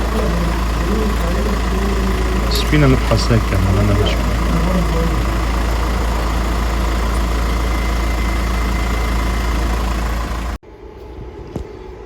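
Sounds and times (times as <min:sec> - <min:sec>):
engine idling: 0:00.0 - 0:10.6.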